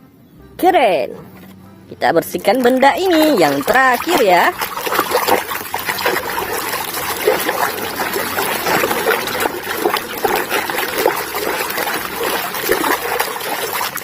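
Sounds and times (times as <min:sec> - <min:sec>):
water trickling and splashing: 0:02.2 - 0:14.0.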